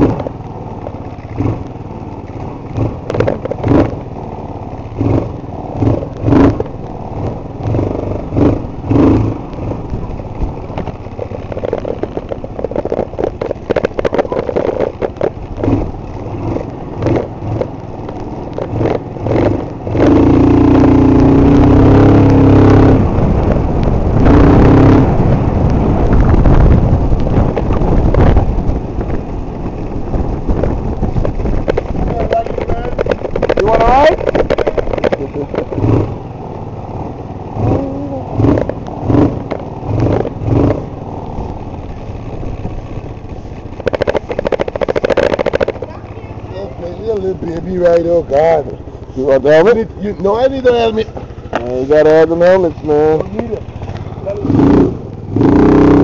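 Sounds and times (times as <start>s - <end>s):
scooter engine running: 0.0s - 56.0s
wind buffeting microphone: 4.8s - 56.0s.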